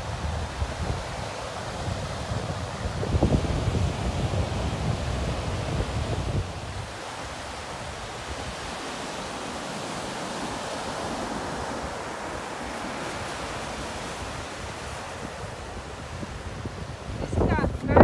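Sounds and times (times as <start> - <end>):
ocean surf on beach: 0.0 - 18.0.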